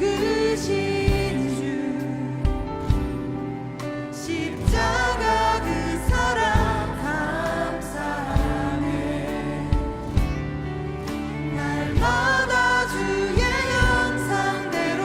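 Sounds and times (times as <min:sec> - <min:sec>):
voices singing together: 0:00.0 - 0:03.2, 0:04.2 - 0:15.0
drums: 0:00.0 - 0:15.0.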